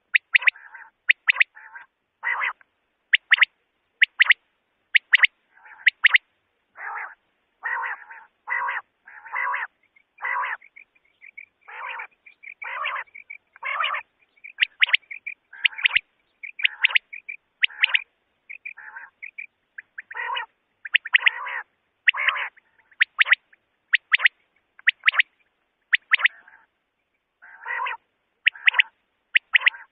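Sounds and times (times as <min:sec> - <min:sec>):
quail calling: 0:00.0 - 0:26.8, 0:27.4 - 0:29.9.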